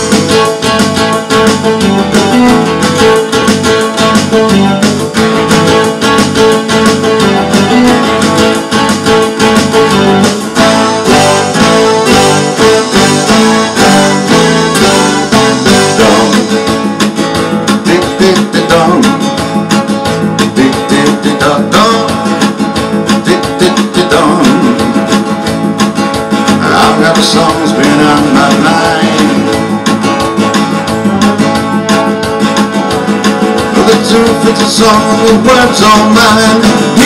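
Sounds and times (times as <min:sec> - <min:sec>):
acoustic guitar strummed: 0:00.0 - 0:37.0.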